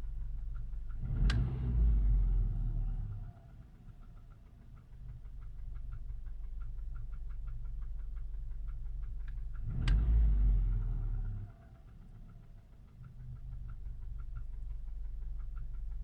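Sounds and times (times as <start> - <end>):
car engine idling: 0.0 - 16.0
engine knocking: 0.0 - 16.0.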